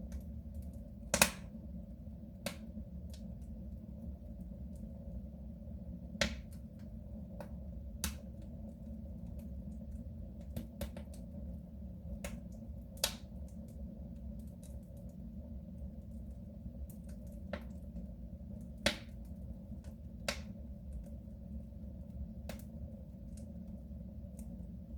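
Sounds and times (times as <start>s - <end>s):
wood fire crackling in stove: 0.0s - 24.9s.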